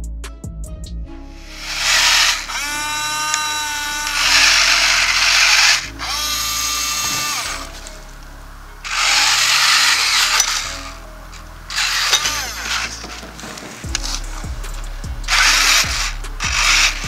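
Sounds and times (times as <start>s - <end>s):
electric motor whine: 1.5s - 8.2s, 8.8s - 14.6s, 15.3s - 17.0s
rough gear noise: 1.6s - 8.2s, 8.8s - 17.0s.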